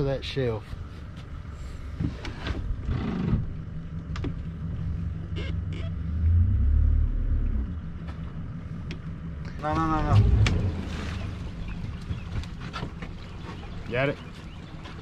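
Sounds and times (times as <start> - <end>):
outboard motor idling: 0.5 - 15.0.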